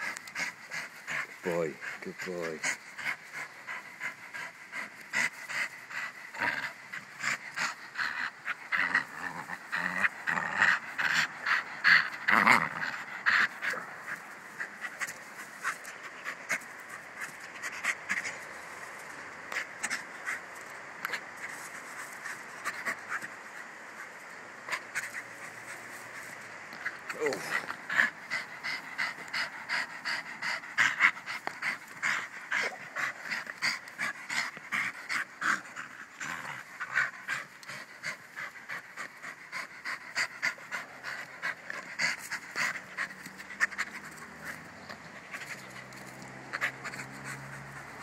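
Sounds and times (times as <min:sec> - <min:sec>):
dog panting: 0:00.0 - 0:48.0.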